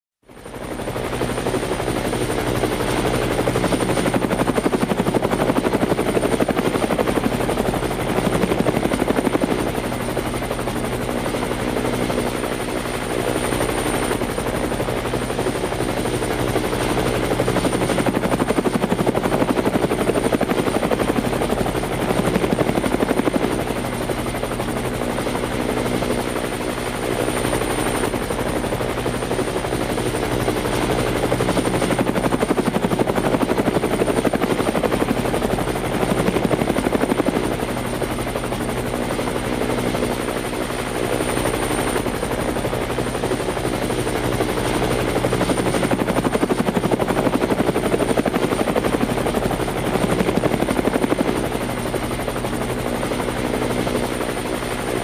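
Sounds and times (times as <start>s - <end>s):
helicopter running: 0.3s - 55.0s.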